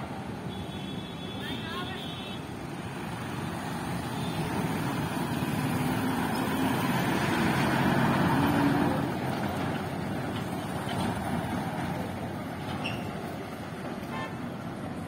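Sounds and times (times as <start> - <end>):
dump truck driving past: 2.8 - 15.0.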